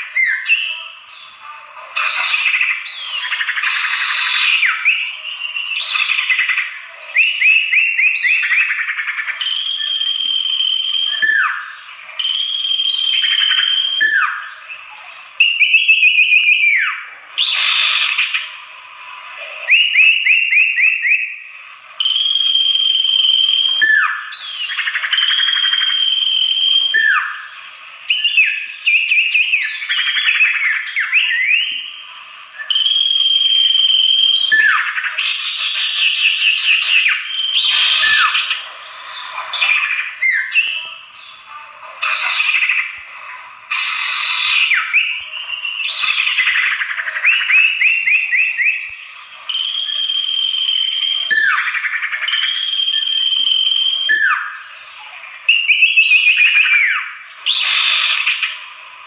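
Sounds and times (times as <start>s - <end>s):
bird calling agitatedly: 0.0s - 18.7s, 19.4s - 59.0s.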